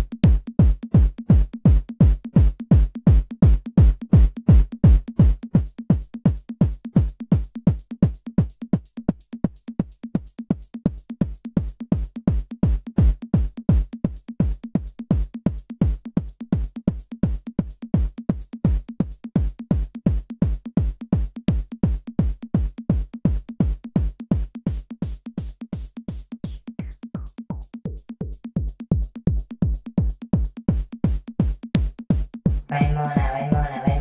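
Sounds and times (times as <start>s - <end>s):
drum machine beat: 0.0s - 34.0s.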